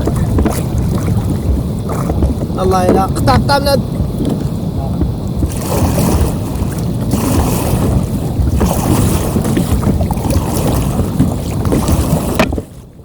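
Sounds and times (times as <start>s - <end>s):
sea water washing: 0.0s - 13.0s
wind buffeting microphone: 0.0s - 13.0s.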